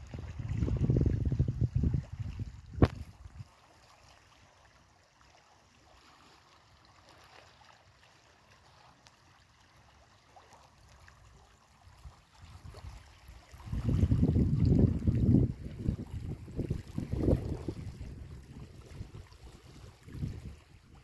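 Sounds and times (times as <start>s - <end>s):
waves lapping on pebbly shore: 2.8s - 21.0s.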